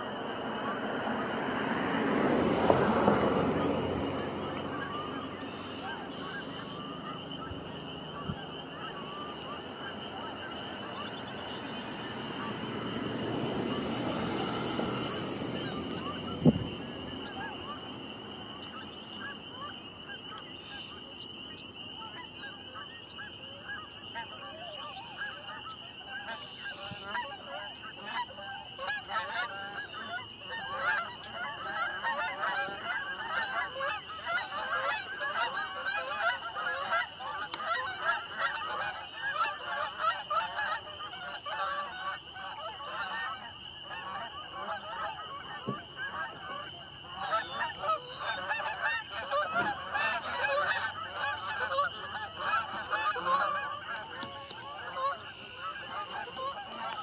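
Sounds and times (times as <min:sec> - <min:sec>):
geese honking in flight: 0:00.0 - 0:57.0.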